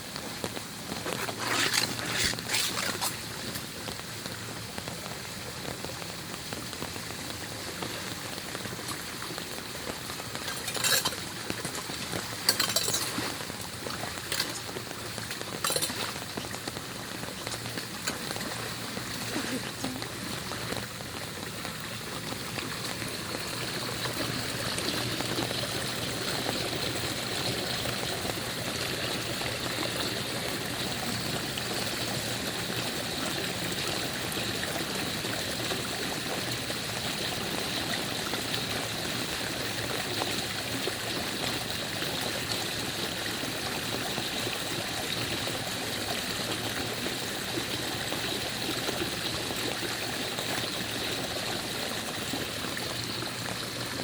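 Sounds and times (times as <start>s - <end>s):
water rushing through drain: 0.0s - 54.0s.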